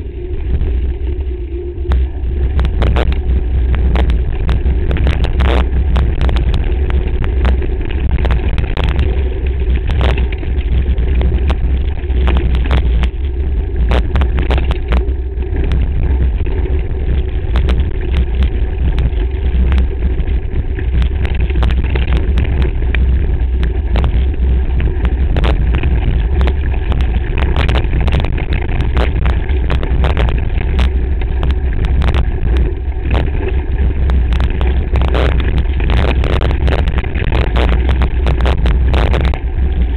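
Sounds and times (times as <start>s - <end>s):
wind and bike frame rumble: 0.0s - 39.9s
bike rattling over stones: 2.0s - 39.9s.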